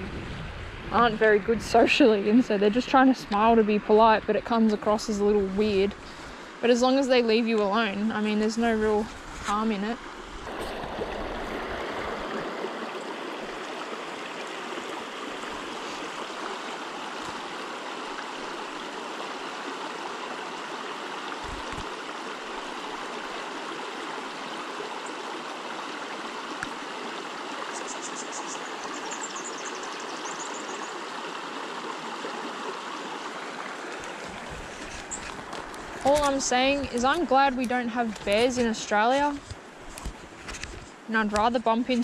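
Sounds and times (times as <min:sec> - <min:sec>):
creek water babbling over stones: 0:00.8 - 0:42.0.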